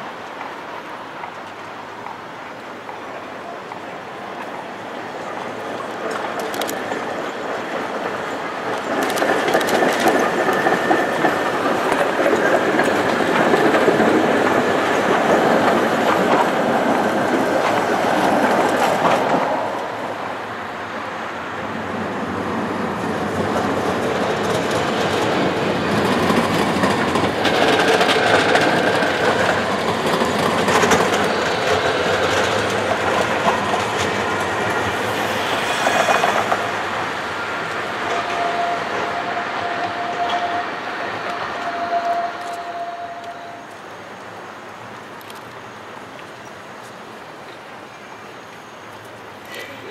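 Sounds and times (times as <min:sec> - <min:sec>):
tram wheels clattering over rail joints: 0:00.1 - 0:49.9.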